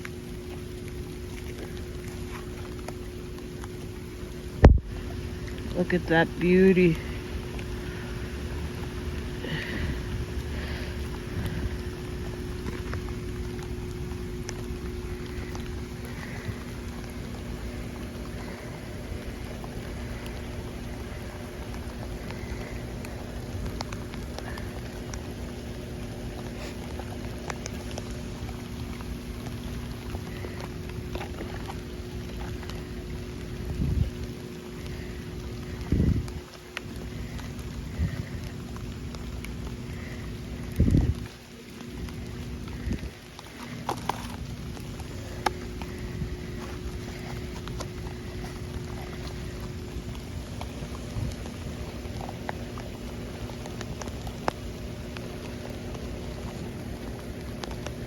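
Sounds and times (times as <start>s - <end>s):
faint steady hum: 0.0s - 58.0s
raindrops ticking close by: 0.0s - 58.0s
steady rain falling: 0.0s - 58.0s
wind rumble on microphone: 0.6s - 58.0s.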